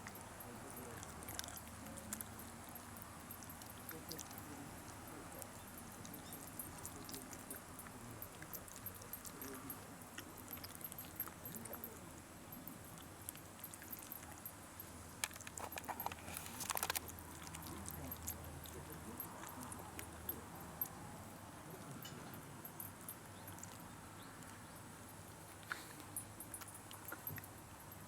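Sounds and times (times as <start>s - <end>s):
dog licking and chewing: 0.0s - 28.0s.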